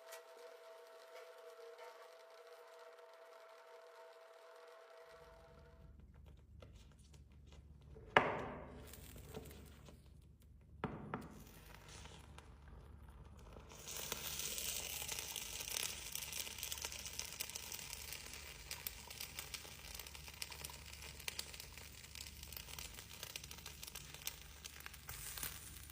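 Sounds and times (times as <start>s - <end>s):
chocolate sizzling and crackling: 0.0s - 5.8s, 7.1s - 25.9s.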